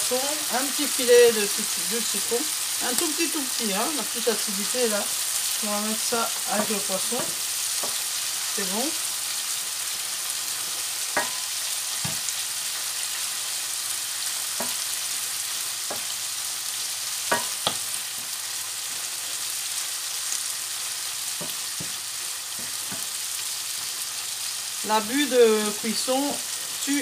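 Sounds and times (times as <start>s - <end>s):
sauce sizzling in a frying pan: 0.0s - 27.0s.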